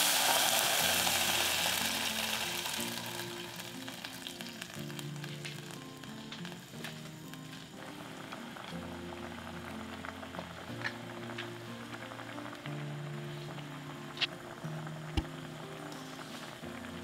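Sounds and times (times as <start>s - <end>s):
food sizzling in a pan: 0.0s - 17.0s
soft background music: 0.0s - 17.0s.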